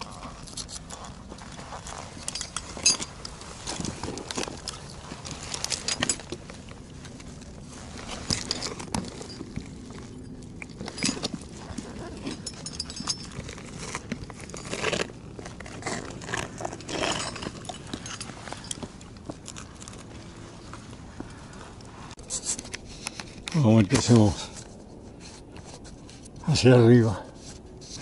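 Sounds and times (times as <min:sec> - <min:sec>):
gear clicks and scrapes on rock: 0:00.0 - 0:28.0.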